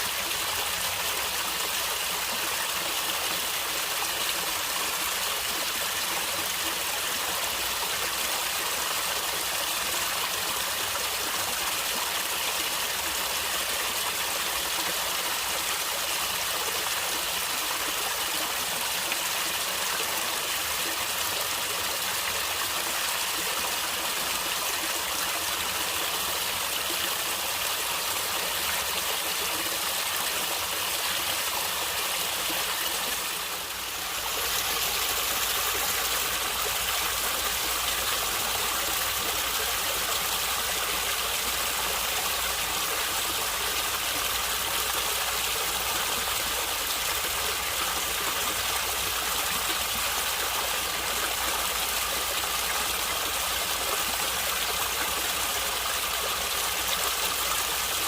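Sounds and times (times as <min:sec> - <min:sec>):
stream water gurgling: 0:00.0 - 0:58.0.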